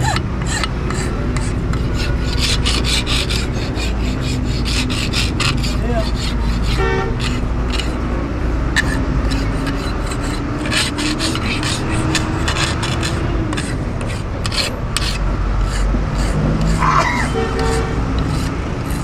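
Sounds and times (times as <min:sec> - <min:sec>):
hand file scraping metal: 0:00.0 - 0:08.1, 0:08.7 - 0:19.0.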